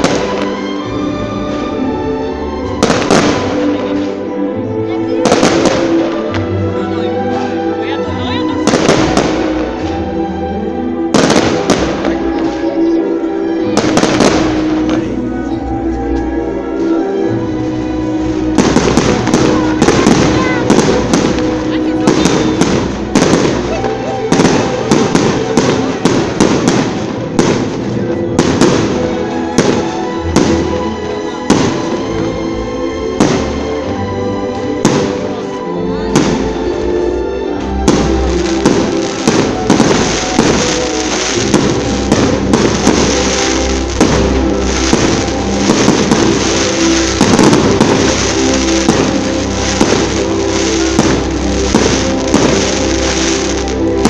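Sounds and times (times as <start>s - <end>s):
fireworks exploding: 0.0s - 1.8s, 2.6s - 4.3s, 5.0s - 13.0s, 13.6s - 16.4s, 17.6s - 32.3s, 33.2s - 35.5s, 36.1s - 36.8s, 37.6s - 54.0s
music of sustained tones: 0.0s - 54.0s.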